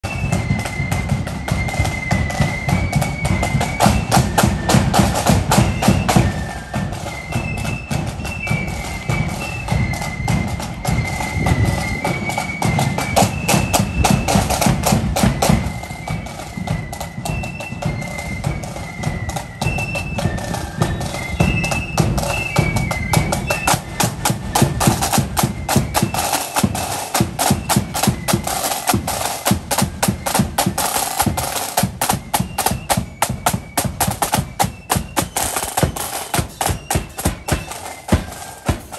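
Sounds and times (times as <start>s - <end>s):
flutes playing melody: 0.0s - 38.9s
snare drums: 0.0s - 38.9s.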